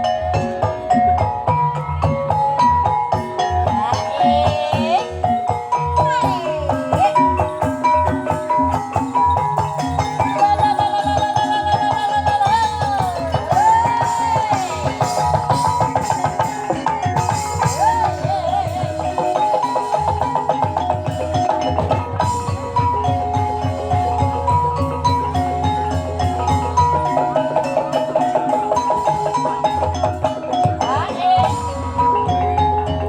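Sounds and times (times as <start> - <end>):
drum strokes: 0.0 - 33.0
high wavering melody: 0.0 - 33.0
mallet-struck percussion pattern: 0.0 - 33.0.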